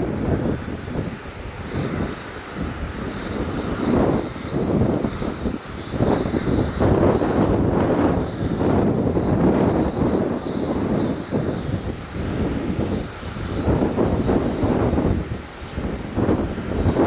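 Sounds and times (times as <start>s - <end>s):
drone propeller and motor noise: 0.0s - 17.0s
thin high whine: 0.0s - 17.0s.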